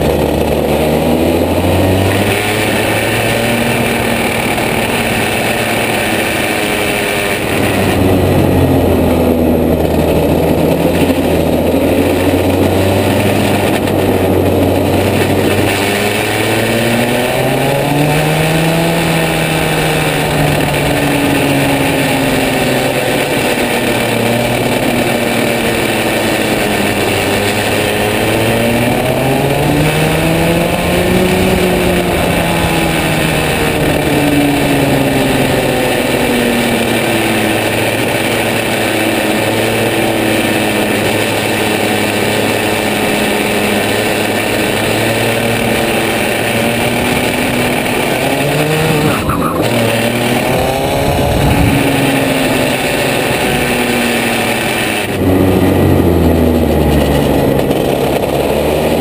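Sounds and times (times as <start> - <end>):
two-stroke kart engine racing: 0.0 - 59.0.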